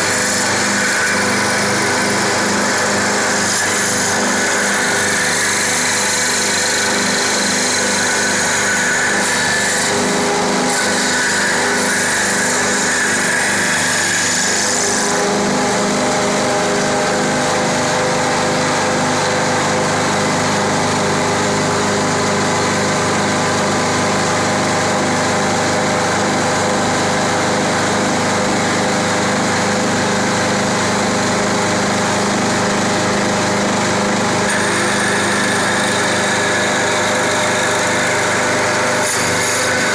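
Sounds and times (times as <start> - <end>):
lathe motor hum: 0.0 - 39.9.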